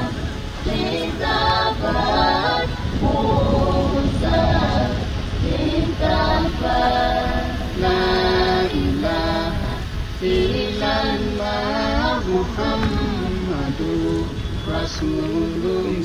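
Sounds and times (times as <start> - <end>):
steady low rumble: 0.0 - 16.0
voices singing chant-like melody: 0.0 - 16.0.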